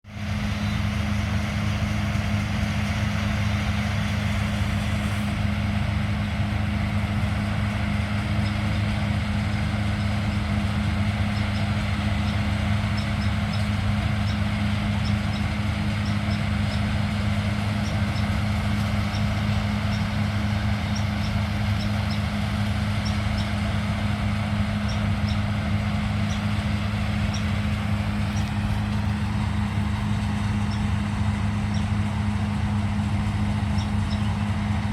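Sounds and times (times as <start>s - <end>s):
heavy machine engine humming: 0.0s - 34.9s.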